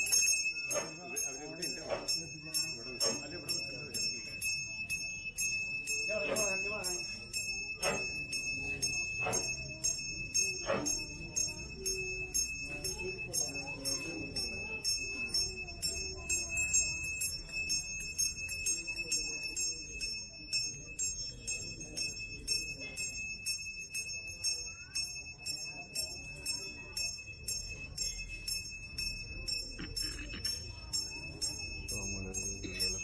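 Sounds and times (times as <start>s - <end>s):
metal bell ringing: 0.0s - 33.0s
murmur of crowd voices: 0.0s - 33.0s.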